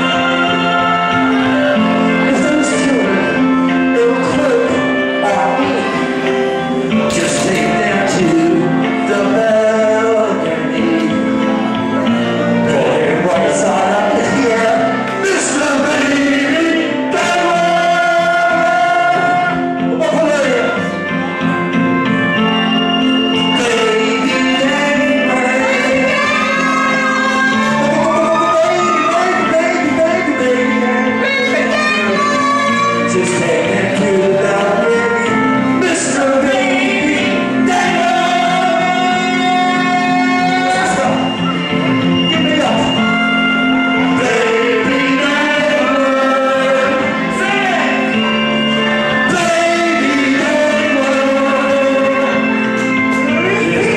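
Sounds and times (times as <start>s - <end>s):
backing music: 0.0s - 53.9s
man singing into a microphone: 0.0s - 53.9s.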